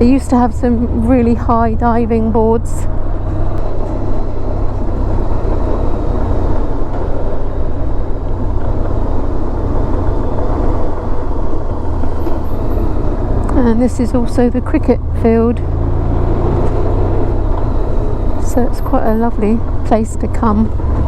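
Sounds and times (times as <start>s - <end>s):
motorcycle engine running: 0.0s - 21.0s
rushing wind noise: 0.0s - 21.0s.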